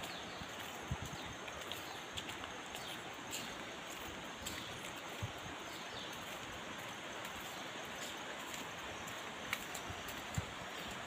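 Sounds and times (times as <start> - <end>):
faint bird or insect chirps: 0.0 - 11.0
flowing water: 0.0 - 11.0
footsteps on dirt path: 0.0 - 11.0.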